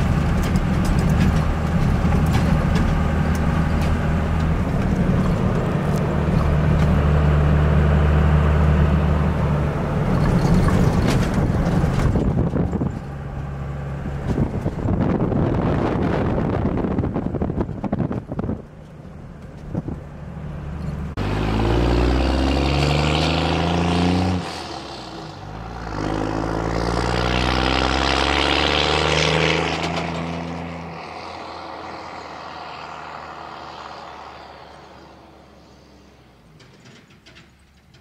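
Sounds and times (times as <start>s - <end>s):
pickup truck accelerating away: 0.0s - 37.8s.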